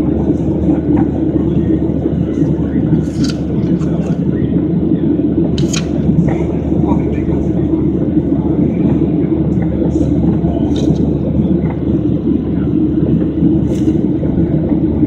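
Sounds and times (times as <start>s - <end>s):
airflow rumble: 0.0s - 15.0s
airplane engine drone: 0.0s - 15.0s.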